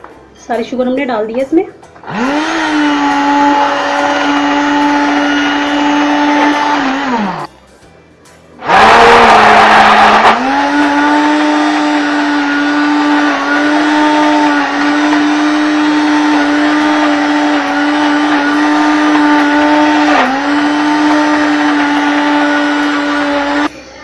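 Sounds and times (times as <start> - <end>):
electric hand blender whirring: 2.0 - 7.5, 8.6 - 23.7.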